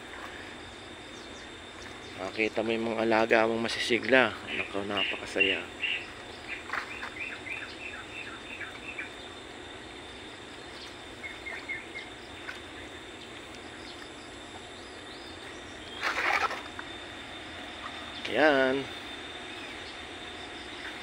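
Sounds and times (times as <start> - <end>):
high insect whine: 0.0 - 21.0
bird chirping: 1.0 - 9.4, 10.0 - 21.0.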